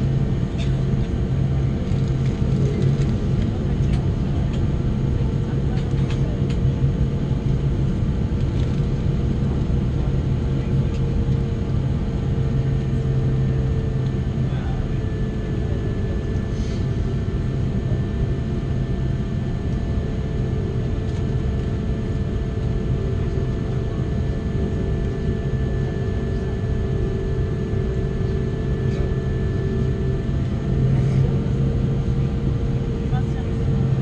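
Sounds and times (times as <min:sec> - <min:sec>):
jet engines idling: 0:00.0 - 0:34.0.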